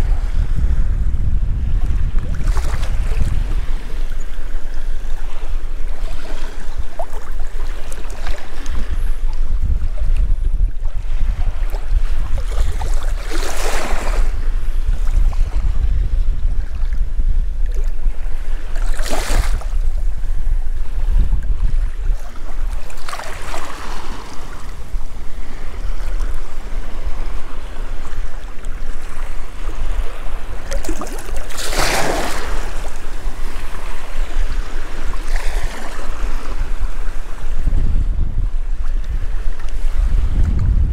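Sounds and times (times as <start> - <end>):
wind buffeting microphone: 0.0 - 40.9
water lapping and sloshing: 1.6 - 40.9.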